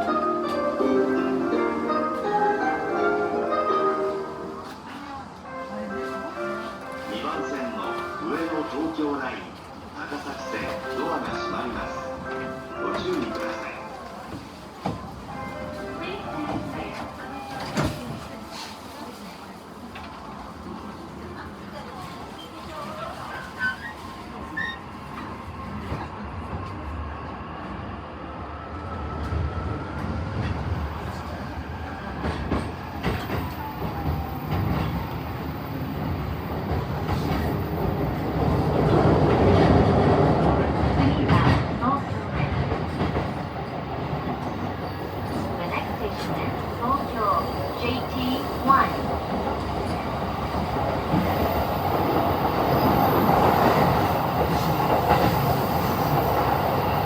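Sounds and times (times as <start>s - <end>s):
train rumble from inside: 0.0s - 57.0s.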